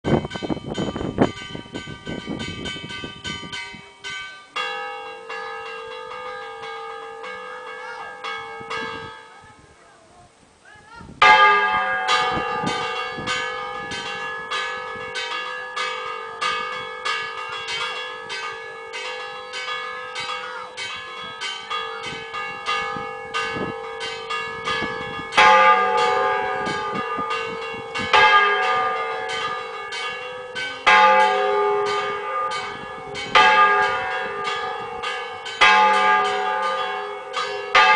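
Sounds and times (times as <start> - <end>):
church bells ringing: 0.1 - 9.7, 11.2 - 37.9.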